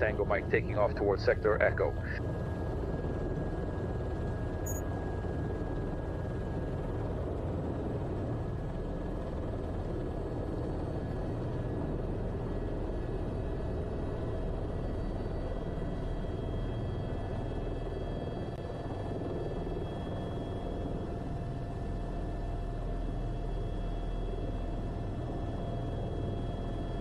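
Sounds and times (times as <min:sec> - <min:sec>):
helicopter engine and rotor drone: 0:00.0 - 0:27.0.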